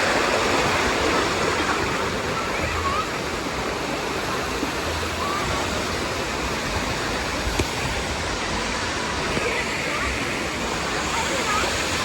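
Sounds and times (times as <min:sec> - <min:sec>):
faint distant voices: 0:00.0 - 0:12.0
water falling and splashing: 0:00.0 - 0:12.0.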